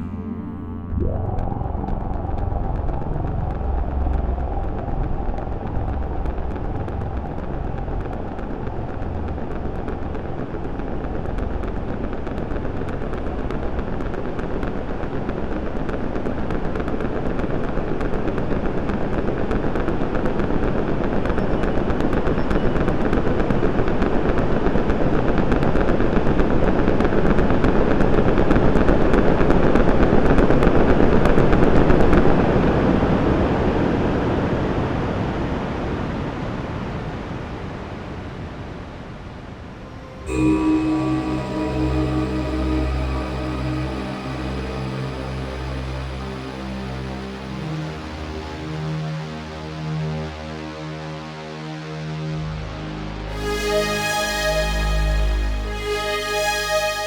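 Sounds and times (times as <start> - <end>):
synthesized crackling rumbling noise: 0.0 - 48.8, 53.3 - 57.0.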